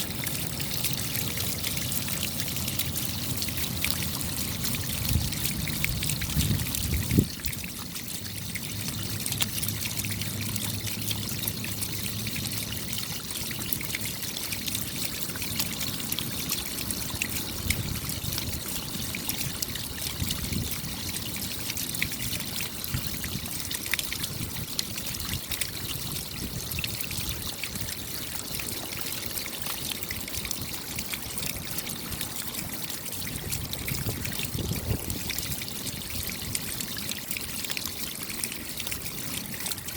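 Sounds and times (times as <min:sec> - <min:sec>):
rain drops ticking: 0:00.0 - 0:39.9
water trickling: 0:00.0 - 0:39.9.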